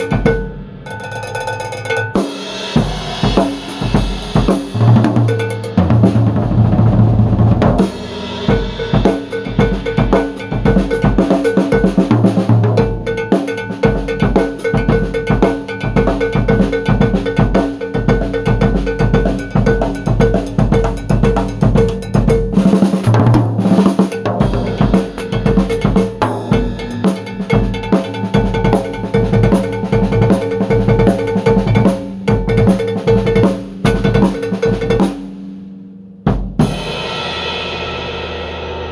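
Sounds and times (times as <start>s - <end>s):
cowbell ringing: 0.0s - 6.2s, 8.5s - 35.2s
bass drum and snare strokes: 2.2s - 35.4s.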